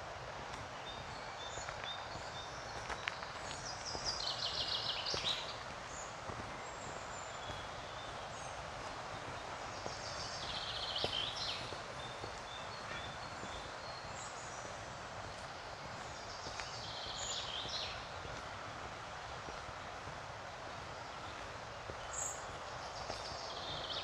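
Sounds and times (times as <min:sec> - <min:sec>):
songbird singing: 0:00.6 - 0:20.0, 0:20.9 - 0:24.0.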